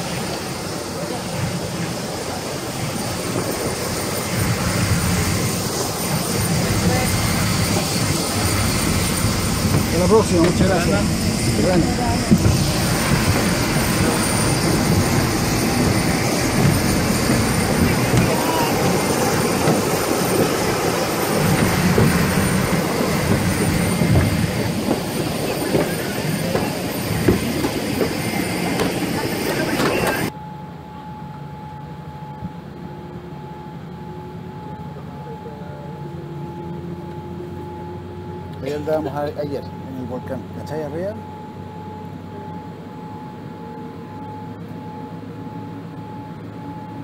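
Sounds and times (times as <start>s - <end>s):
faint high whine: 0.0s - 47.0s
outdoor noise: 0.0s - 47.0s.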